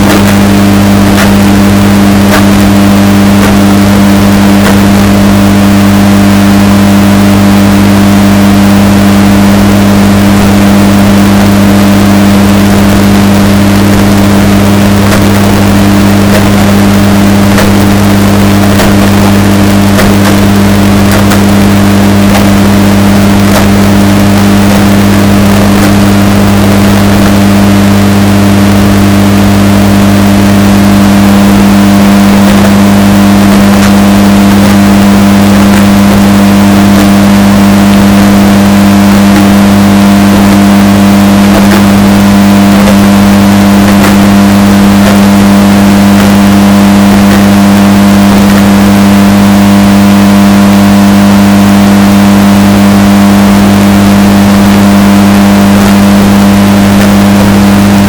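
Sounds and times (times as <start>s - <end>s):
distorted washing machine hum: 0.0s - 58.0s.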